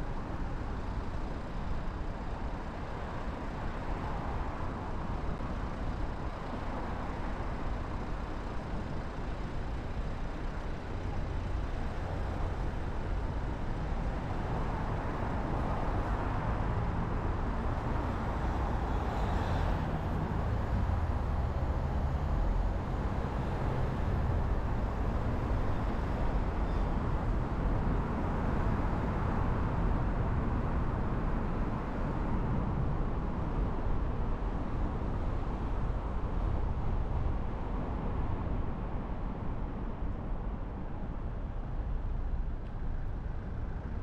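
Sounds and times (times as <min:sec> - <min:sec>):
road traffic rumble: 0:00.0 - 0:44.0.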